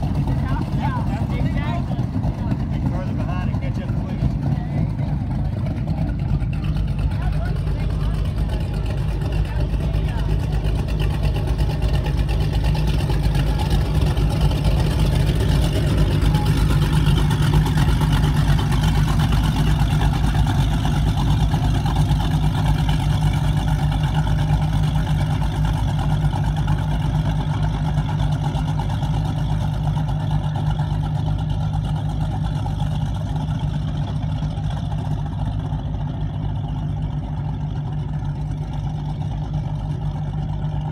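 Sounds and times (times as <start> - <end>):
powerboat engine exhaust rumble: 0.0 - 40.9.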